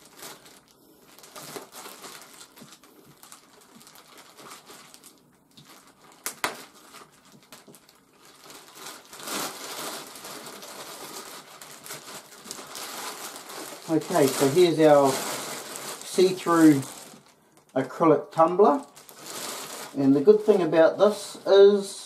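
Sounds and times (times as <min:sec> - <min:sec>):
packaging crinkling and rustling: 0:00.0 - 0:21.9.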